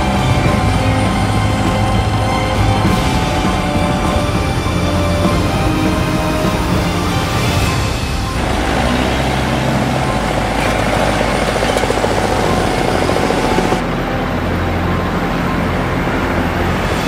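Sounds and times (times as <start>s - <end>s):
helicopter rotor and turbine: 0.0s - 17.0s.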